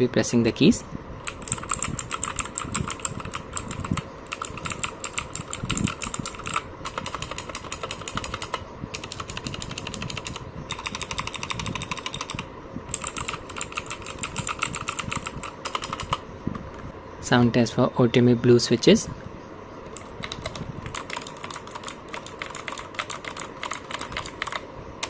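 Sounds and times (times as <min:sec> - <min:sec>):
mechanical keyboard typing: 0:01.2 - 0:16.8, 0:19.9 - 0:24.7.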